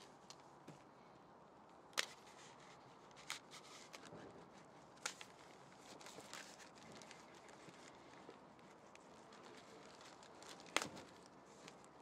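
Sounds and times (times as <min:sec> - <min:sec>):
foil tape crinkling: 0:02.0 - 0:12.0.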